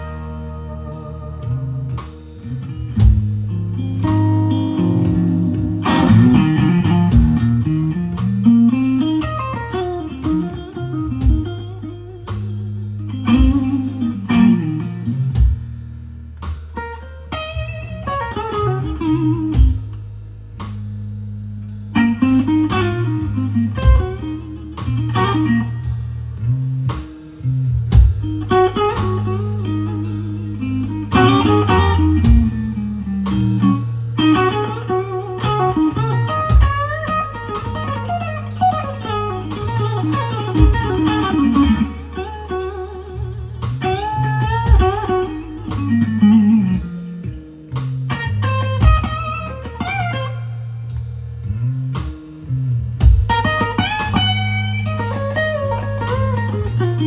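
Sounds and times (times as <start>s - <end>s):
lead electric guitar solo: 0.0s - 15.6s, 16.7s - 20.0s, 21.9s - 57.0s
steady drum beat: 0.0s - 56.8s
bass notes: 0.0s - 57.0s.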